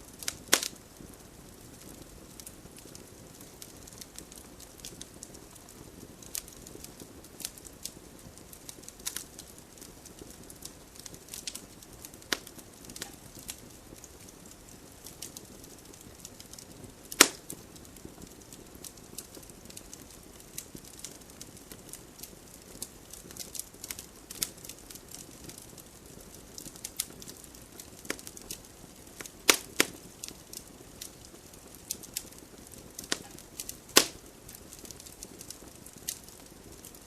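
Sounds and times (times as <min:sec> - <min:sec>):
campfire crackling and popping: 0:00.0 - 0:37.0
soft rumble of flames: 0:00.0 - 0:37.0.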